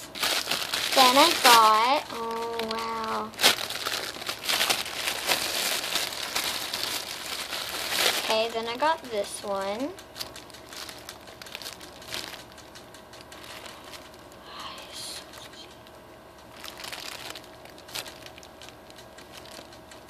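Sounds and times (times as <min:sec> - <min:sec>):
plastic bag crinkling: 0:00.0 - 0:15.8, 0:16.4 - 0:20.0
fan humming: 0:00.0 - 0:20.0.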